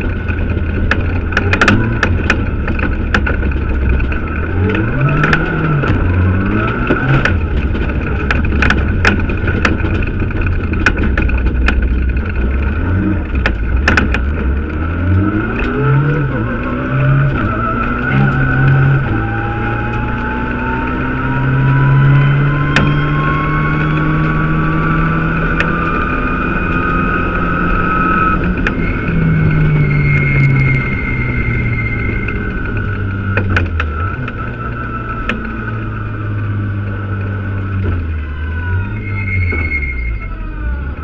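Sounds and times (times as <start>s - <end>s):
rising turbo whine: 0.0s - 11.6s, 12.2s - 41.0s
car engine revving: 0.0s - 41.0s.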